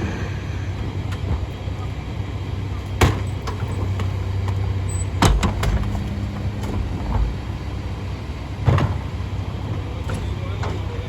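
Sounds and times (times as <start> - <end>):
garbage truck engine running: 0.0 - 11.0.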